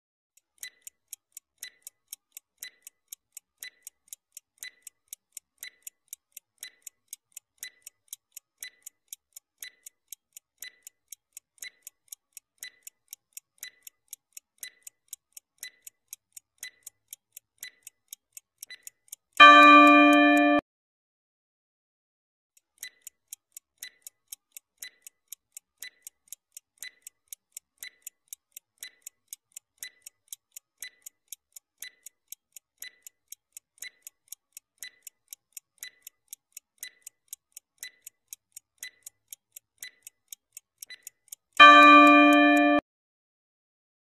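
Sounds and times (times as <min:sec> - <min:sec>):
clock ticking: 0:00.4 - 0:20.6, 0:22.6 - 0:42.8.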